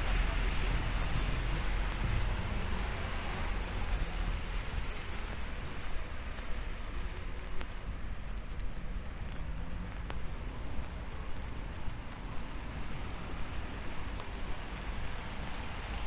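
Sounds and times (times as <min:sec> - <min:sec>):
rain on an umbrella: 0:00.0 - 0:16.0.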